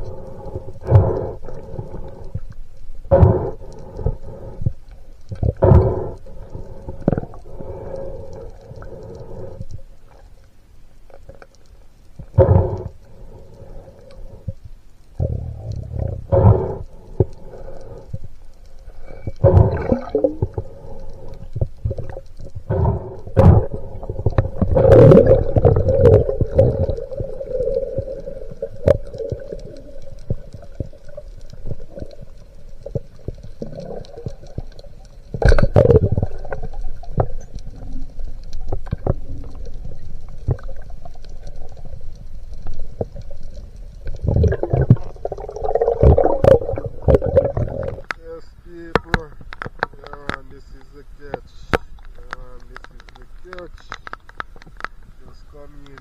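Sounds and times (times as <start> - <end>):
underwater gurgling: 0.0 - 56.0
water surges: 0.0 - 56.0.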